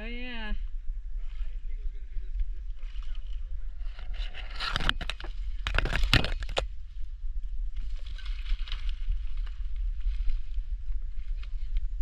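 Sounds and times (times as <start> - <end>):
low rumble: 0.0 - 12.0
crackling and scraping: 2.3 - 12.0.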